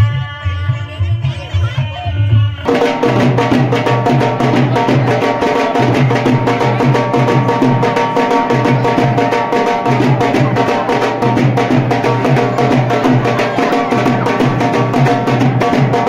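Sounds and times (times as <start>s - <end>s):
music with fast drum beat: 0.0s - 16.0s.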